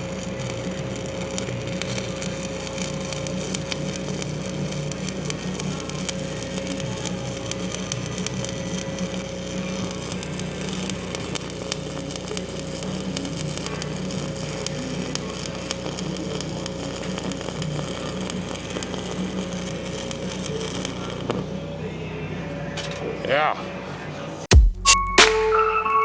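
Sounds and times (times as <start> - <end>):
arc welding crackle and sizzle: 0.0 - 23.2.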